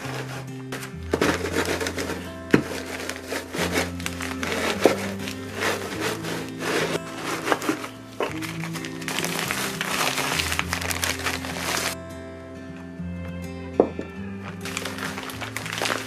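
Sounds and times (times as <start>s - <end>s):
rolling pin crushing cookies: 0.0s - 12.0s, 14.6s - 16.0s
background music: 0.0s - 16.0s.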